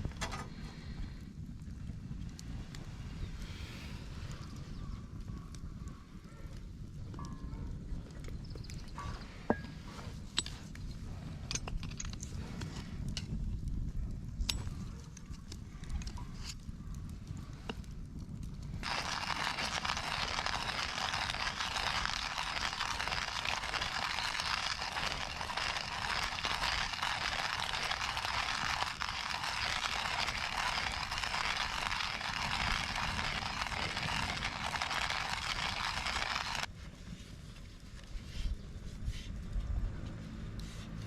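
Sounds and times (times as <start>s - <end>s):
campfire crackling and popping: 0.0s - 38.2s.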